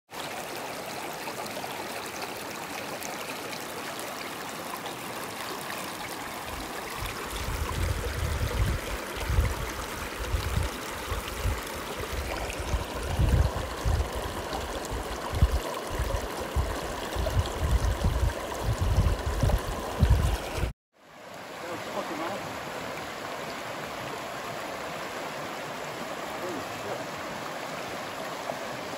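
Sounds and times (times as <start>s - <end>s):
river rushing over stones: 0.1s - 28.9s.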